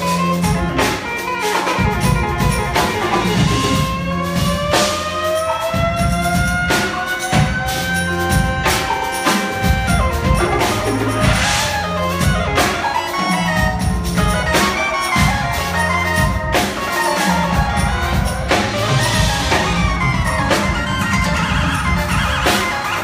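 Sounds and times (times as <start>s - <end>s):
drum kit hits: 0.0s - 23.0s
keyboards: 0.0s - 23.0s
orchestra playing: 0.0s - 23.0s
steady bass line: 0.0s - 23.0s.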